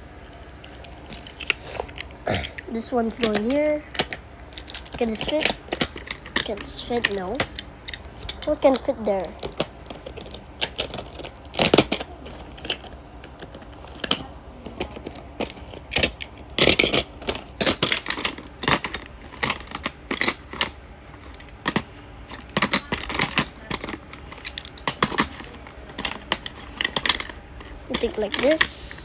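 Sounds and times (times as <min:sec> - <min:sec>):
small hard pieces clicking and clattering: 0:00.2 - 0:14.2, 0:14.9 - 0:29.0.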